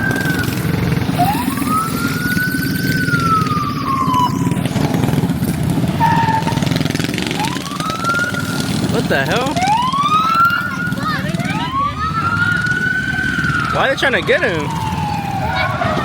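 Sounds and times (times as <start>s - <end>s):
emergency siren wailing: 0.0s - 16.0s
low rumble of vehicle engines: 0.0s - 16.0s.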